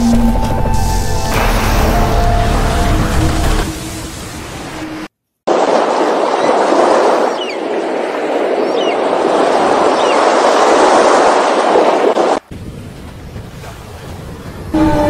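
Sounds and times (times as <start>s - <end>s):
rushing wind and water: 0.0s - 15.0s.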